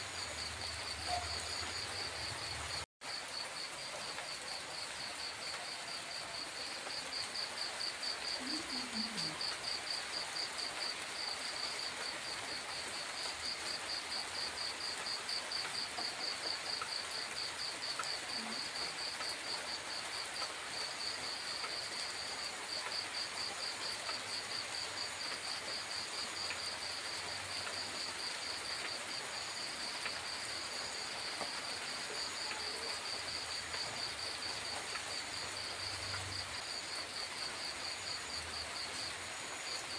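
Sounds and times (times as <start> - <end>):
light rain hissing: 0.0 - 39.9.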